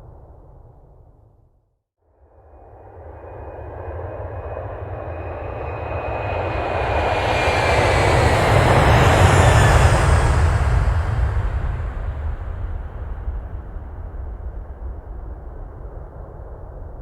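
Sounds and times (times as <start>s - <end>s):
jet engines approaching: 2.8s - 17.0s.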